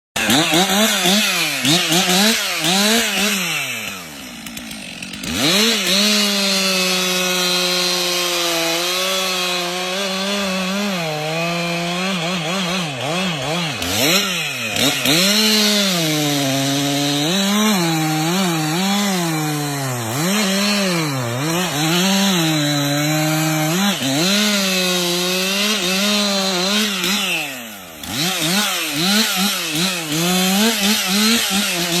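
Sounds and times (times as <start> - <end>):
chainsaw cutting wood: 0.2 - 32.0.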